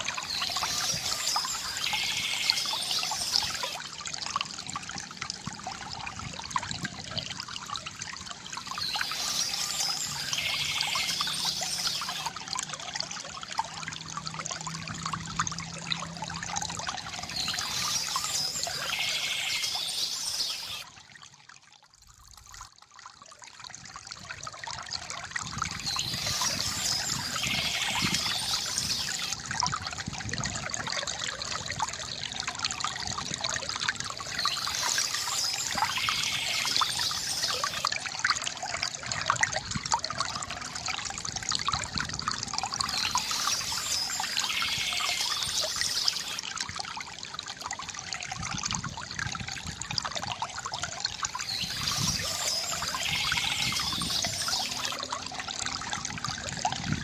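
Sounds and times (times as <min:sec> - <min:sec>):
water trickling from bamboo fountain: 0:00.0 - 0:57.0.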